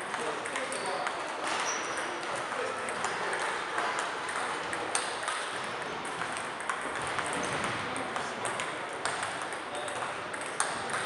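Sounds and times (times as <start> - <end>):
echoing hall noise: 0.0 - 11.0
table tennis balls clicking: 0.0 - 11.0.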